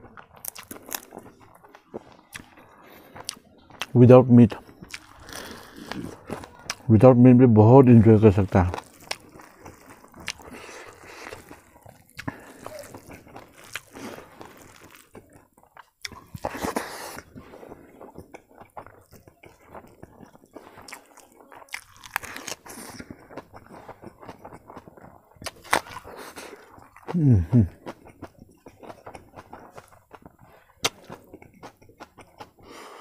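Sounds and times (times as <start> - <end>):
wet chewing: 0.0 - 7.0, 7.6 - 33.0.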